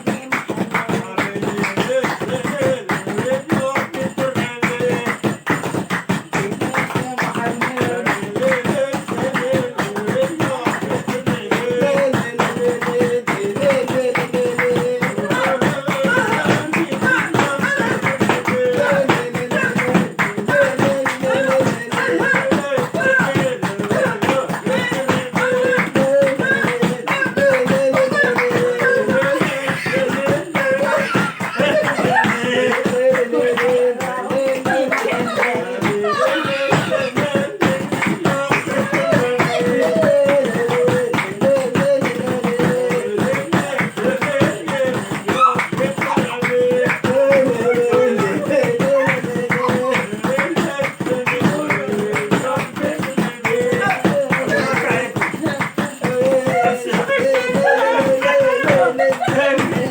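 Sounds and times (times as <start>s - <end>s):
fast hand clapping: 0.0s - 59.9s
percussion: 0.0s - 59.9s
voices singing folk melody: 0.0s - 59.9s.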